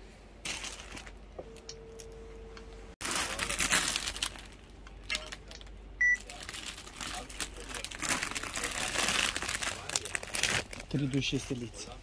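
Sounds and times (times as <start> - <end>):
plastic packaging rustling: 0.4 - 1.2, 3.0 - 12.0.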